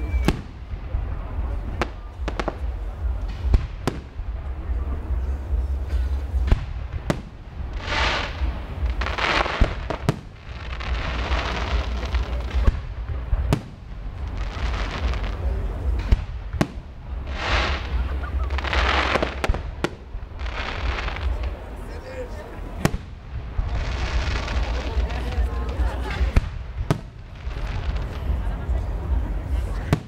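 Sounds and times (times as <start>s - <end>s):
firework hiss and crackle: 0.0s - 30.0s.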